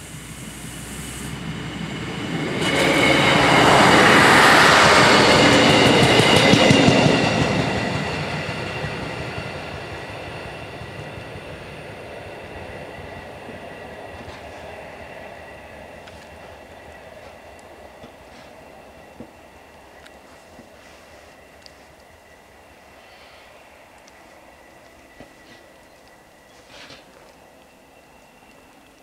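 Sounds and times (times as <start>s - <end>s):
diesel train passing: 0.0s - 29.0s
train wheels clicking on rail joints: 0.0s - 29.0s.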